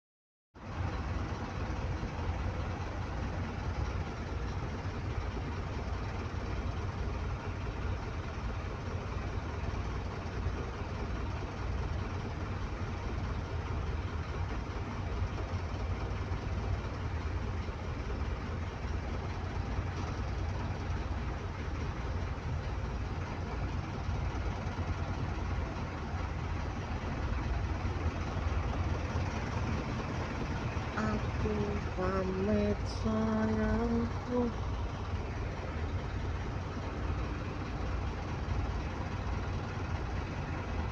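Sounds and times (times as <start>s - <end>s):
boat engine rumbling: 0.6s - 40.9s.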